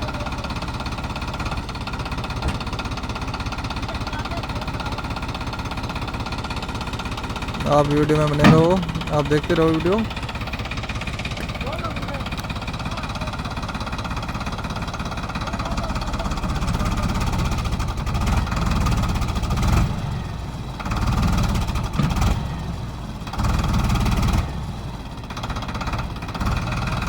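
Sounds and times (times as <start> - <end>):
tractor diesel engine revving: 0.0 - 27.0.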